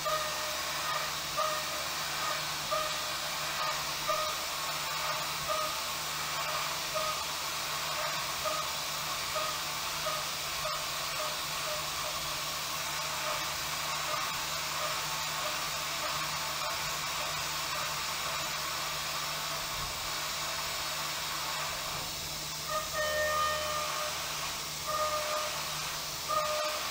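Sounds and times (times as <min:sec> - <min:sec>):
air blast hissing: 0:00.0 - 0:26.9
low machine hum: 0:00.0 - 0:26.9.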